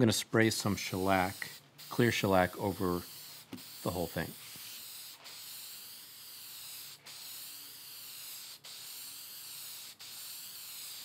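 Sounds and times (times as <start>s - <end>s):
spray hissing: 0.6s - 11.0s.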